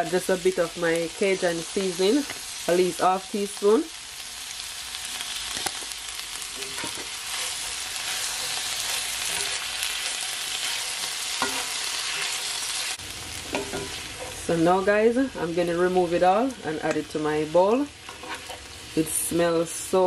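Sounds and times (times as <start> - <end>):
vegetables sizzling in skillet: 0.0 - 20.0.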